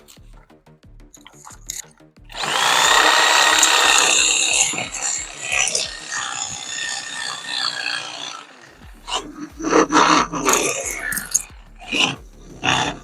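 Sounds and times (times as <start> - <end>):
background music with steady beat: 0.0 - 13.0
reciprocating saw cutting branch: 1.2 - 13.0.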